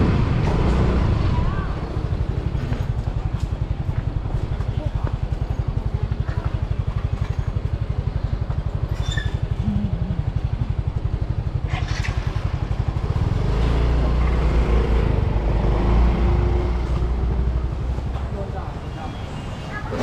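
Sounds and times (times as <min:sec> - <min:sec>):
motorbike engine running: 0:00.0 - 0:18.4.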